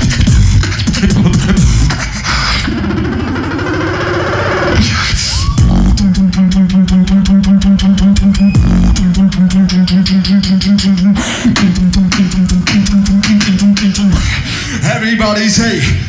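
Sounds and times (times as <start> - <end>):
person beatboxing: 0.0 - 16.0.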